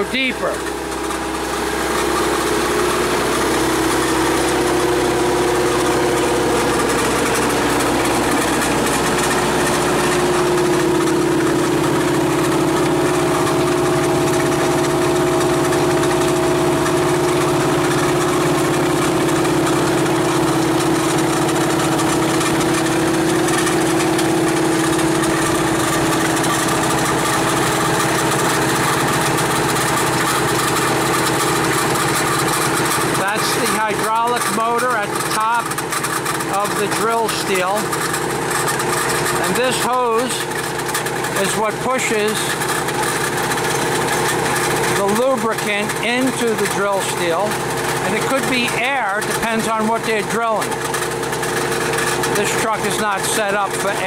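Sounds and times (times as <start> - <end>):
rock drill rig engine din: 0.0 - 54.0.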